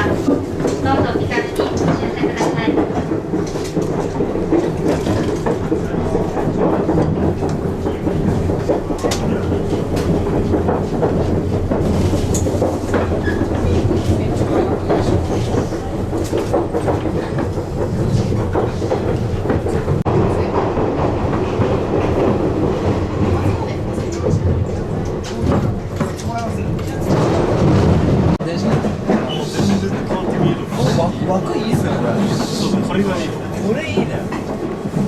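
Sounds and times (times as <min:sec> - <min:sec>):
train wheels rumbling: 0:00.0 - 0:35.0
wheels clicking over rails: 0:00.0 - 0:35.0.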